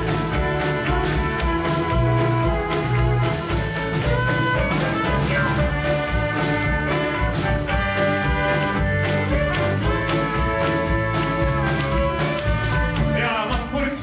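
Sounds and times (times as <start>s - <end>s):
violin: 0.0s - 13.8s
acoustic guitar: 0.0s - 14.0s
drum beat: 0.0s - 14.0s
electric bass: 0.0s - 14.0s
piano: 0.0s - 14.0s
trumpet: 0.0s - 14.0s.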